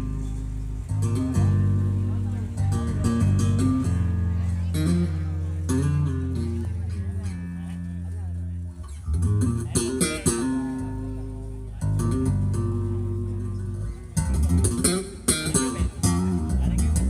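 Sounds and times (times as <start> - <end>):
bass guitar notes: 0.0 - 17.0
plucked guitar: 0.0 - 17.0.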